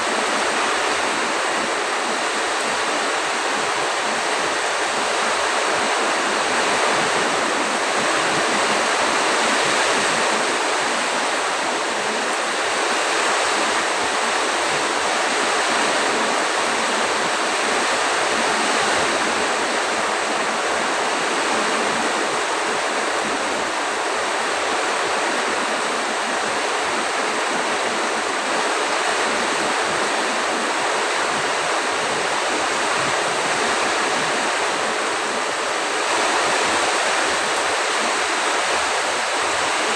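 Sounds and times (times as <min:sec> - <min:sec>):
heavy rain pouring: 0:00.0 - 0:39.9
strong wind: 0:00.0 - 0:39.9.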